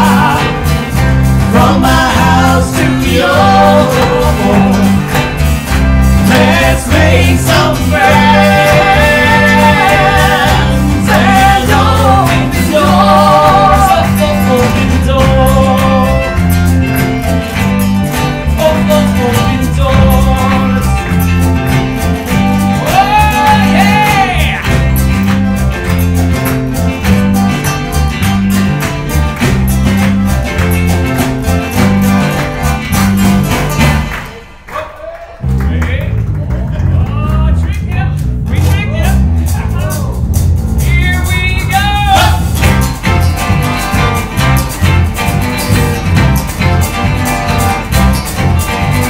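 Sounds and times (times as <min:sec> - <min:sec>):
live band playing upbeat song: 0:00.0 - 0:49.0.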